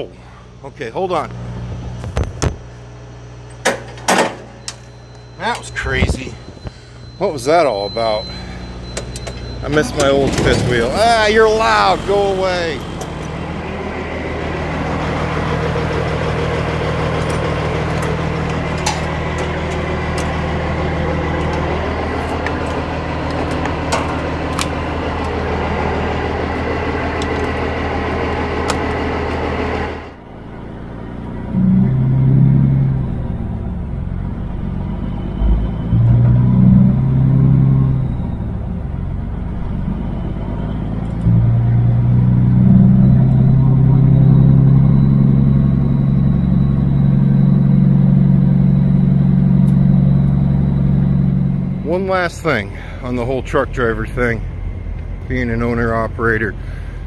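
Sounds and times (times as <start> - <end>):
diesel engine running: 0.0 - 57.0
truck engine revving in cab: 4.4 - 57.0.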